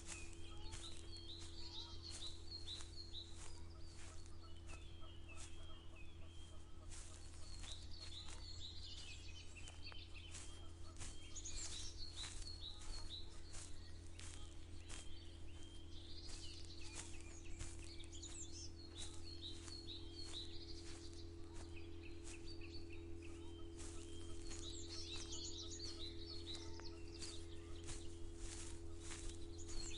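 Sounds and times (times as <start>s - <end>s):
crunching footsteps: 0.0s - 29.9s
songbirds chirping: 0.0s - 29.9s
steady low hum: 0.0s - 29.9s.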